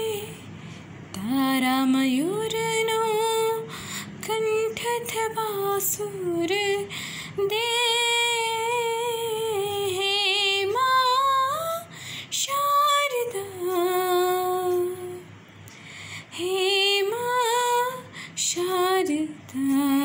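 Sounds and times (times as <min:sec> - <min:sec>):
woman singing a hymn: 0:00.0 - 0:00.4, 0:01.2 - 0:15.3, 0:16.3 - 0:20.0.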